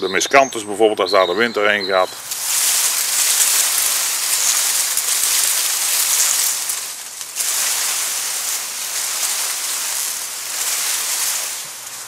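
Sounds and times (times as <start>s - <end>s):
grass rustling in the wind: 2.2s - 12.0s.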